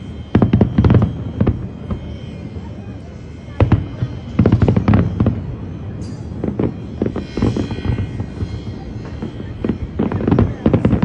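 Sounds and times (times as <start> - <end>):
crackling hiss: 0.0 - 11.0
fireworks bangs and crackles: 0.0 - 11.0.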